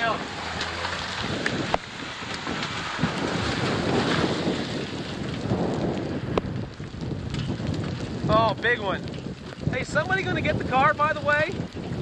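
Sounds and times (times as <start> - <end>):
wind and rain rushing: 0.0 - 12.0.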